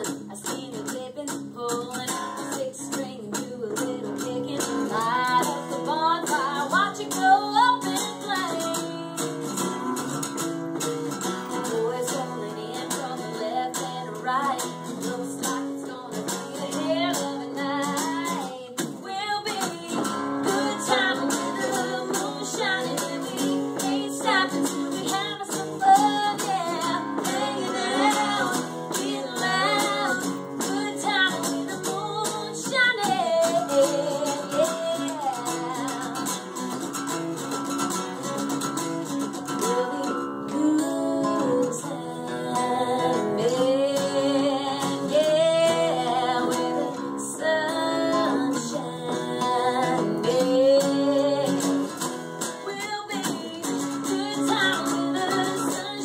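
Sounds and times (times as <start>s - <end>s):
acoustic guitar: 0.0s - 56.0s
woman singing: 0.0s - 56.0s.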